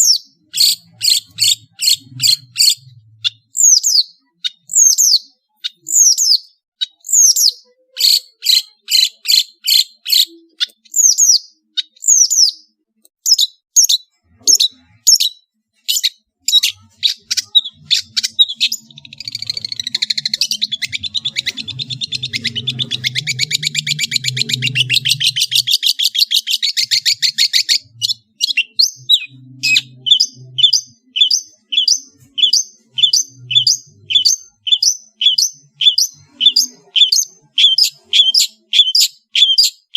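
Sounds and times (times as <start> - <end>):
bird singing sharp notes and trills: 0.0 - 39.9.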